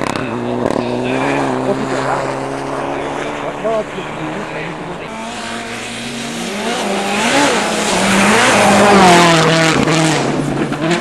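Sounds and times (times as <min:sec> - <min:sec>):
rally car engine passing: 0:00.0 - 0:11.0.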